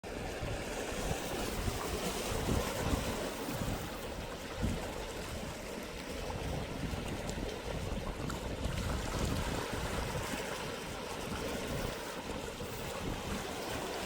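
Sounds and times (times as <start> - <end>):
sea waves washing on shore: 0.0 - 14.0
wind buffeting microphone: 0.1 - 14.0.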